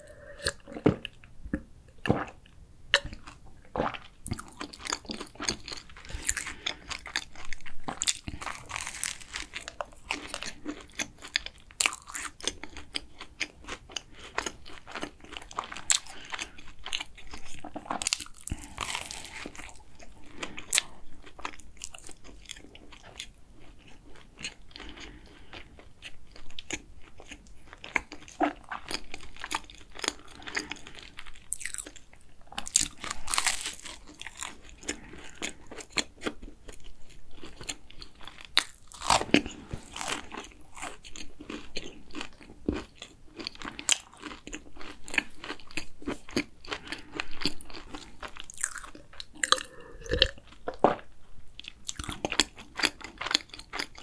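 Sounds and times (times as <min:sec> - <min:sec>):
crunchy pastry chewing: 0:03.0 - 0:54.0.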